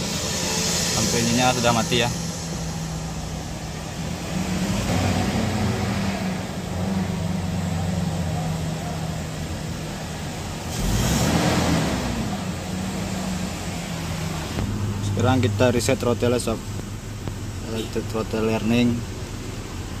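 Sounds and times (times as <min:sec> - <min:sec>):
petrol engine idling: 0:00.0 - 0:04.7, 0:05.6 - 0:10.8, 0:12.1 - 0:20.0.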